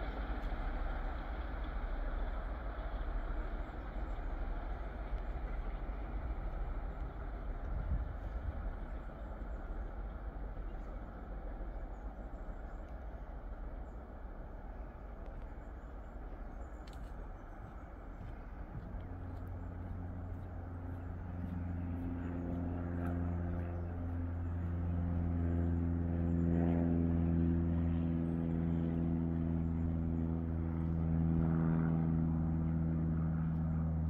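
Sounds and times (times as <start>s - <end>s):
diesel locomotives droning: 0.0s - 34.0s.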